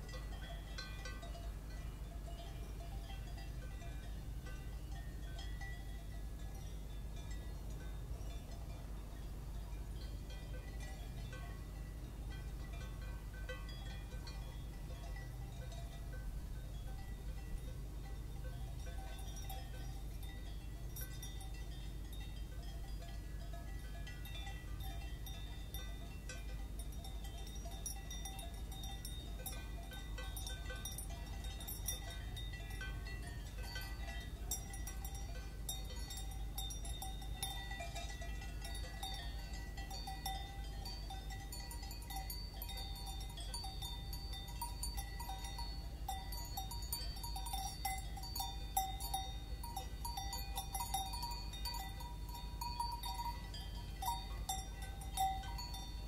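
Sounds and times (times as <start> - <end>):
cowbells clanking: 0.0 - 56.0
low background rumble: 0.0 - 56.0.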